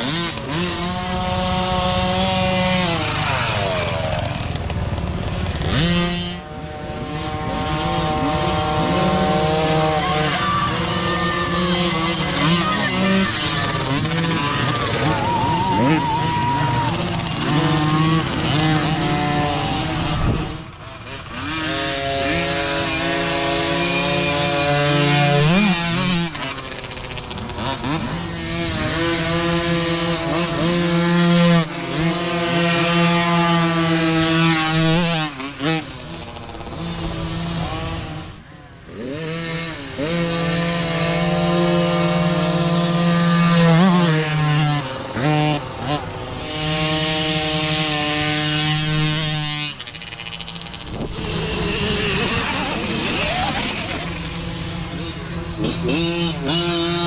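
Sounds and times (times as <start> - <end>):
dirt bike engines buzzing: 0.0 - 57.0.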